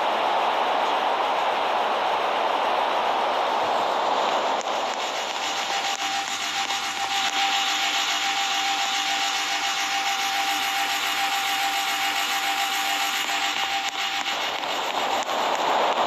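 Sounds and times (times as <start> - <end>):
air conditioner running: 0.0 - 16.0.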